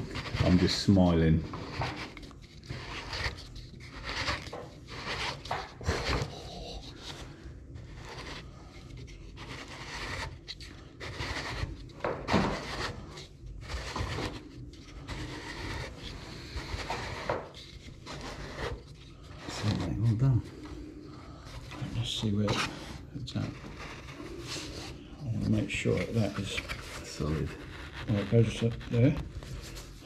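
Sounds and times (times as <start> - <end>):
plastic scraping on thread: 0.0 - 6.3, 6.9 - 20.8, 21.5 - 30.0.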